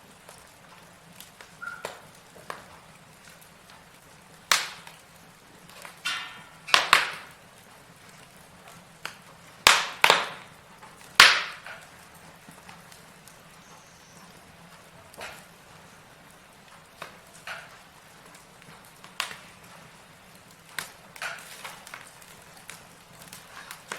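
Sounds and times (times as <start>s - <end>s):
log fire crackling: 0.0s - 23.9s.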